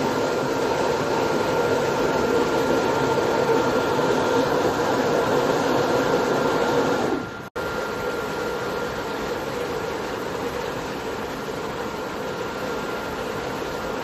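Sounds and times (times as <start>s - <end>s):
washing machine hum and hiss: 0.0s - 14.0s.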